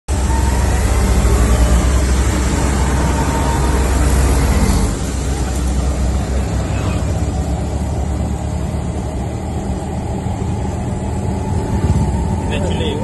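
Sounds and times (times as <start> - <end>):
auto rickshaw engine running: 0.1 - 13.0
road and wind noise: 0.1 - 13.0.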